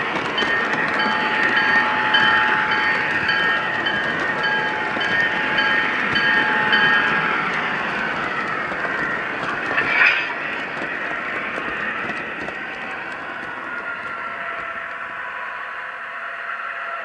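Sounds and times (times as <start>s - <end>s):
model train rolling on track: 0.0s - 17.0s.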